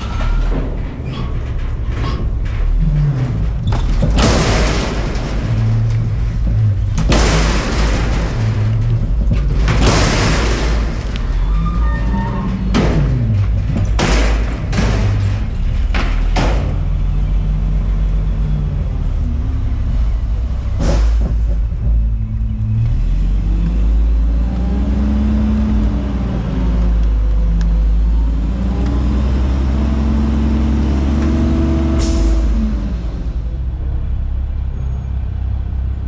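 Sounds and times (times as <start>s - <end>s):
diesel engine revving: 2.5s - 36.0s.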